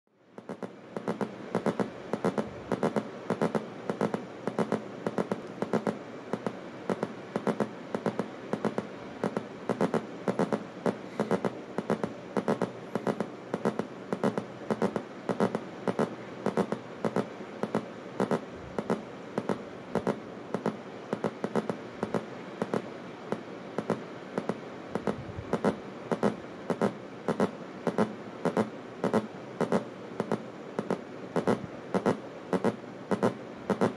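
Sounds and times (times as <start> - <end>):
oscillator crackling buzz: 0.4 - 33.9
sharp irregular clicks: 0.4 - 33.9.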